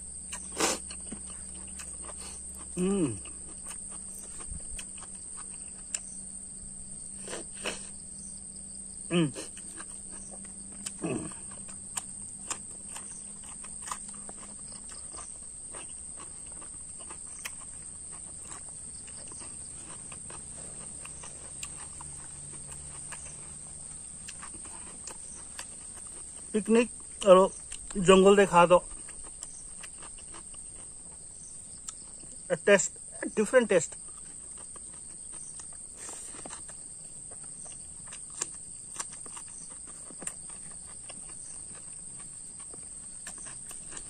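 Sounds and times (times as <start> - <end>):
person eating by hand: 0.0 - 44.0.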